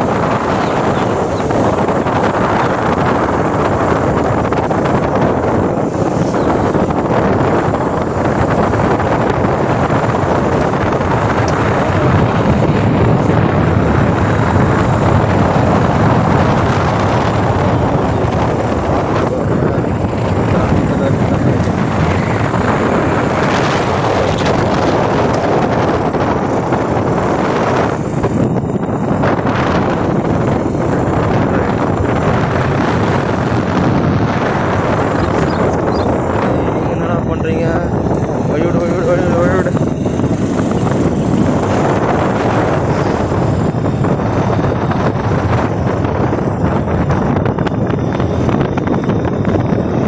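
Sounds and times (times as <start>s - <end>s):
motorcycle engine running: 0.0s - 50.0s
wind noise on microphone: 0.0s - 50.0s.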